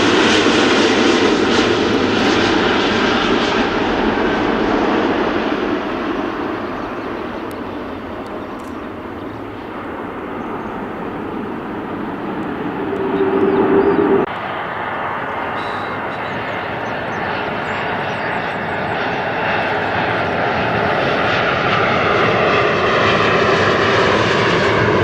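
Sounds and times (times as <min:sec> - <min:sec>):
airliner engine noise: 0:00.0 - 0:25.0.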